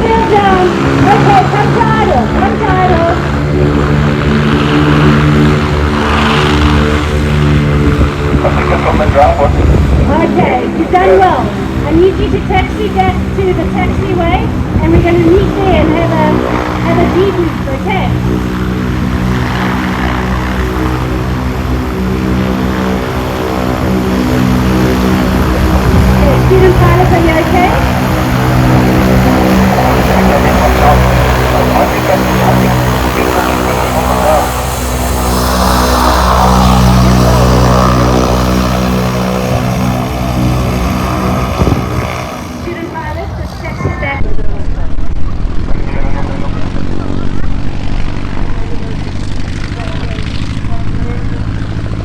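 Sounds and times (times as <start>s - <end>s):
light aircraft engine and propeller: 0.0s - 52.0s.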